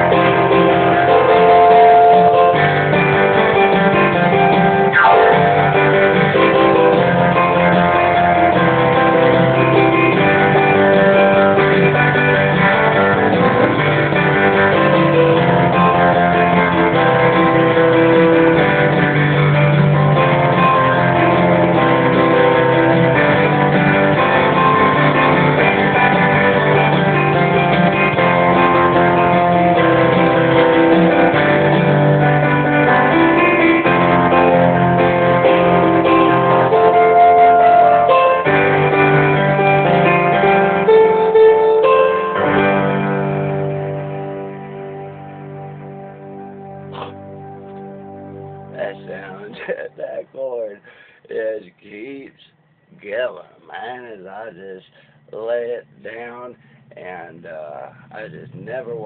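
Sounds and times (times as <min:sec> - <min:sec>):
guitar playing chords: 0:00.0 - 0:52.2, 0:52.9 - 0:59.0.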